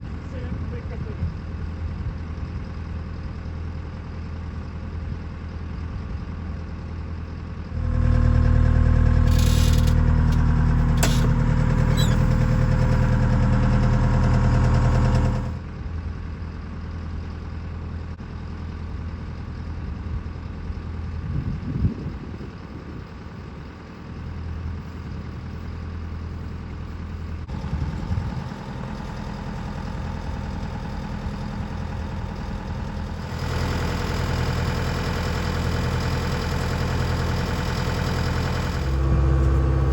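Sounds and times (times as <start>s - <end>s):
heavy machine diesel engine running: 0.1s - 21.1s, 23.8s - 39.9s.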